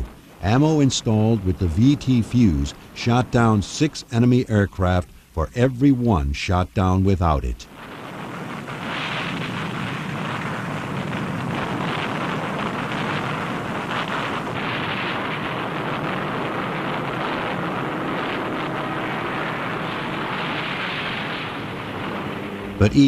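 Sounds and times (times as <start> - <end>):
anti-aircraft gunfire: 0.0 - 5.0, 7.6 - 23.0
aircraft noise: 0.0 - 23.0.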